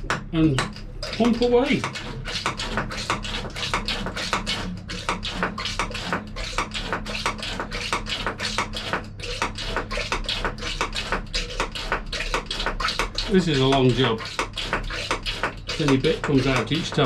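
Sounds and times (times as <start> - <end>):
hand pump clicking: 0.0 - 17.0.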